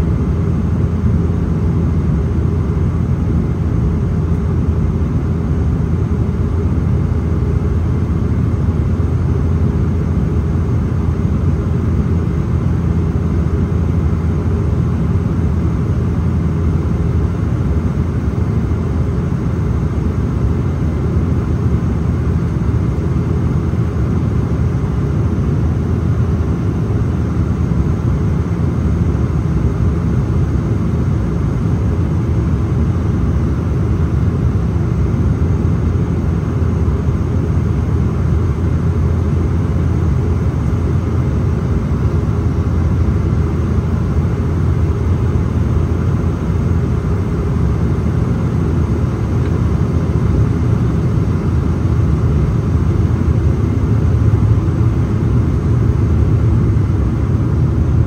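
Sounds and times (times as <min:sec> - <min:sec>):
propeller drone in aircraft cabin: 0:00.0 - 0:58.0.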